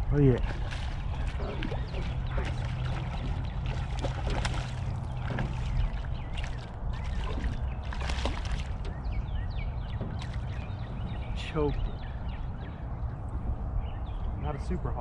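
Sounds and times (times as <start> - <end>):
water splashing against boat: 0.0 - 13.5
steady low hum: 0.0 - 15.0.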